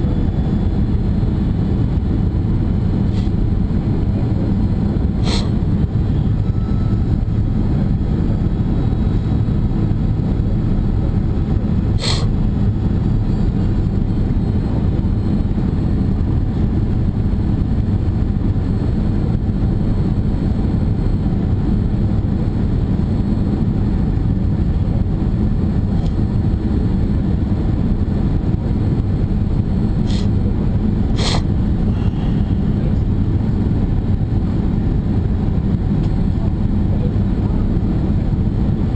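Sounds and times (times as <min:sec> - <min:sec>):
airliner cabin engine roar: 0:00.0 - 0:38.9.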